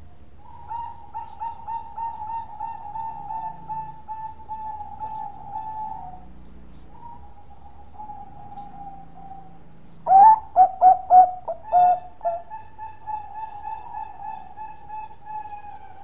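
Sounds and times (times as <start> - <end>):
dove cooing: 0.4 - 16.0.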